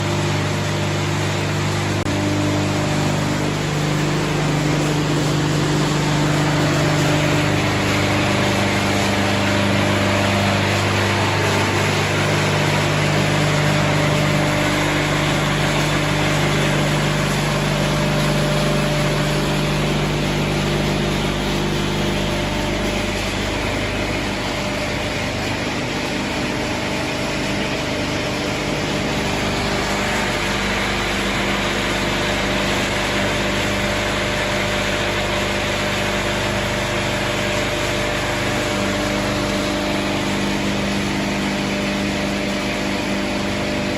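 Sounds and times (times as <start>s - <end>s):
hammer mill humming and rushing: 0.0s - 43.9s.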